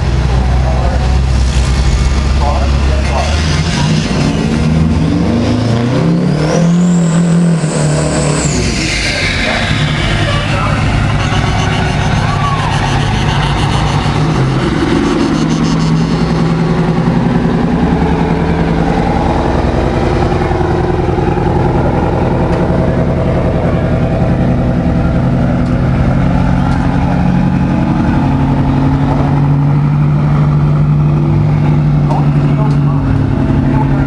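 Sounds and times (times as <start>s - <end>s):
diesel truck engine revving: 0.0s - 34.0s.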